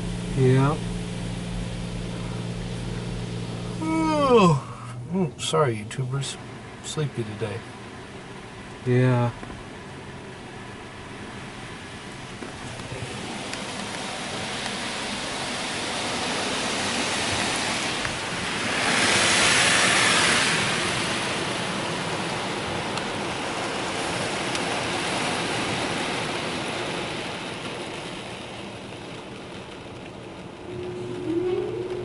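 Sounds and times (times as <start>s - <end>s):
car wash water spray hissing: 0.0s - 32.0s.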